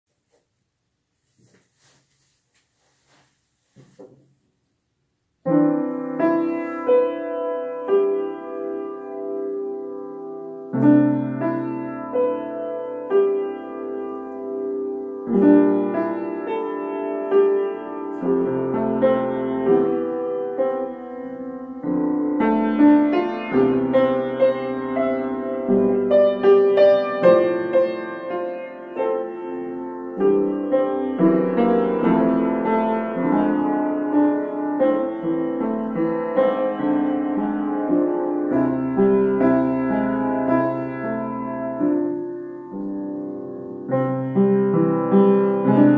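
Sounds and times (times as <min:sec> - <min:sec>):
solo piano piece: 0:03.8 - 0:45.9.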